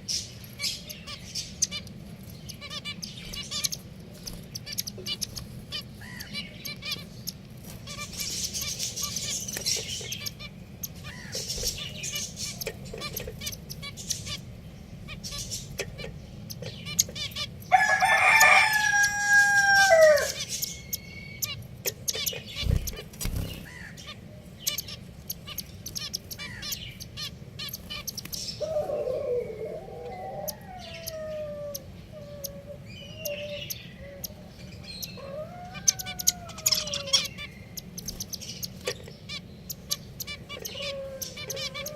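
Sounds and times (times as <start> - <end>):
finches chirping: 0.0 - 41.9
drawn-out bird call: 4.5 - 41.9.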